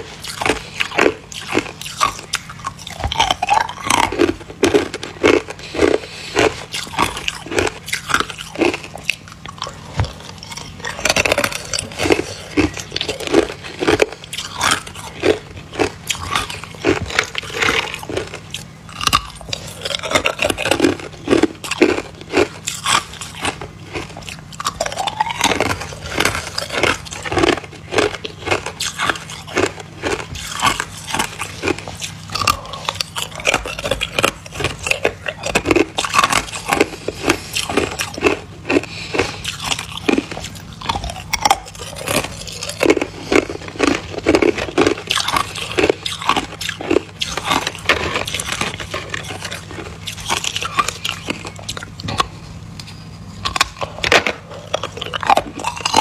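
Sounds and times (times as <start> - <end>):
chewing ice cubes crunching: 0.0 - 56.0.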